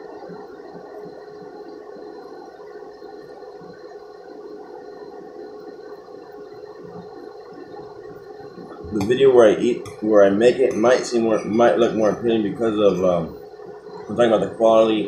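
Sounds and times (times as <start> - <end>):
steady hum of held tones: 0.0 - 15.0.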